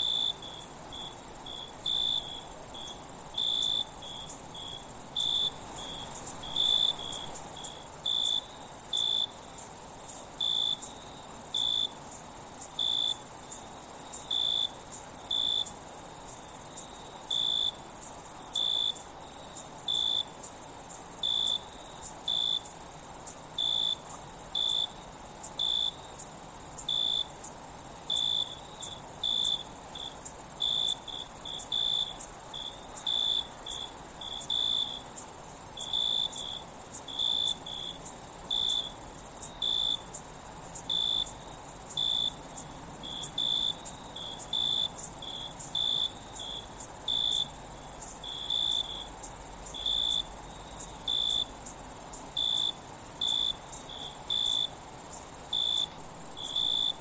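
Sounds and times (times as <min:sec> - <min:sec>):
high-pitched insect trill: 0:00.0 - 0:57.0
insect chirps: 0:00.0 - 0:57.0.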